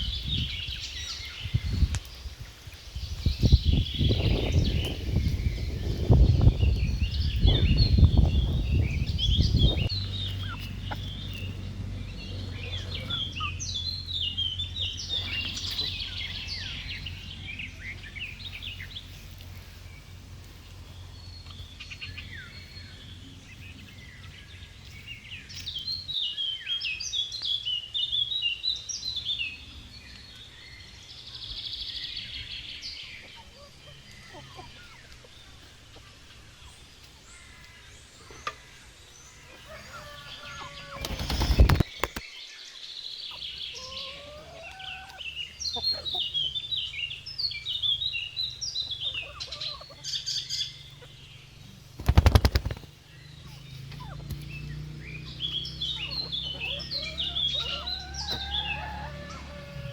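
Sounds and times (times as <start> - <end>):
birds chirping and singing: 0.0 - 59.9.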